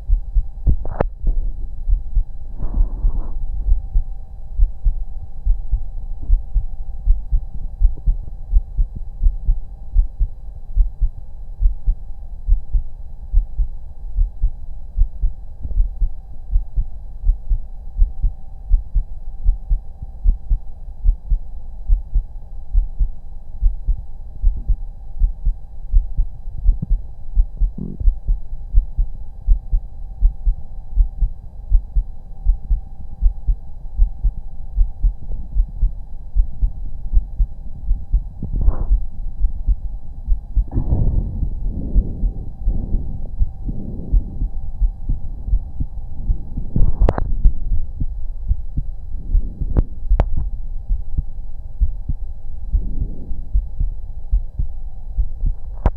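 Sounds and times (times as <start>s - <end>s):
faint steady hum: 0.0s - 55.9s
heartbeat thumps: 0.0s - 55.9s.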